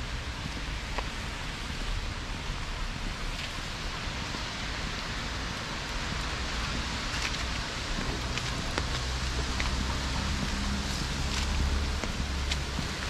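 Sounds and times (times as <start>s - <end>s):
low rumble: 0.0s - 13.0s
drips on wet paving: 0.1s - 13.0s
light rain hissing: 0.1s - 13.0s.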